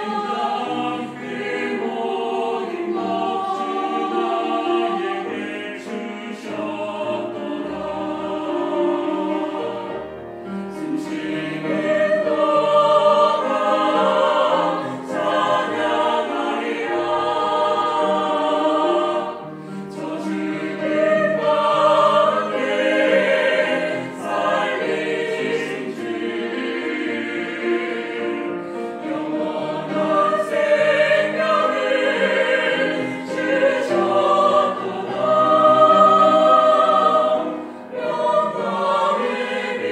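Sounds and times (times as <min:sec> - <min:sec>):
choir singing a hymn: 0:00.0 - 0:39.9
piano: 0:00.0 - 0:39.9
strings: 0:00.0 - 0:39.9.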